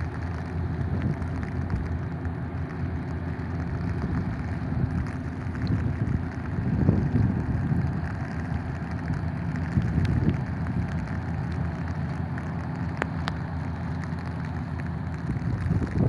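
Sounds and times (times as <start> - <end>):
low rumble: 0.0 - 16.0
steady rain falling: 0.0 - 16.0.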